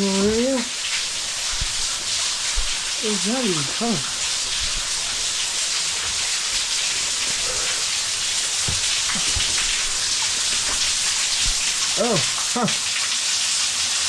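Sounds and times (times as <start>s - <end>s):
waterfall hissing: 0.0s - 14.0s.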